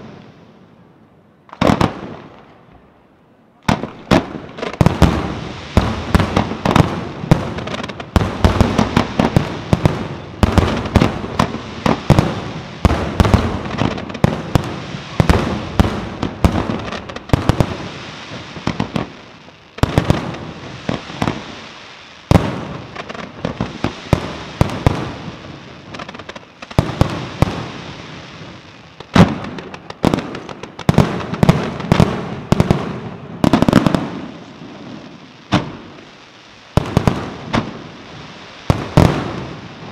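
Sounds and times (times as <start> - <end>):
fireworks bangs and booms: 0.0 - 39.9.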